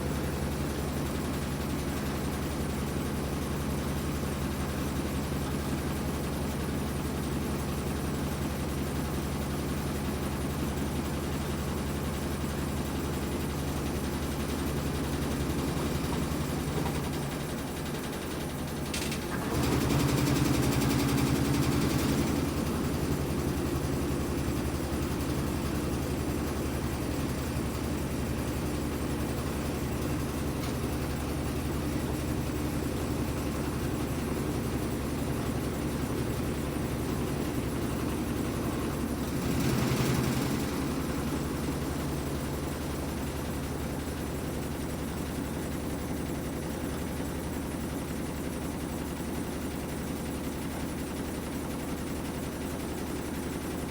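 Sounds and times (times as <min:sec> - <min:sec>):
washing machine motor humming: 0:00.0 - 0:53.9.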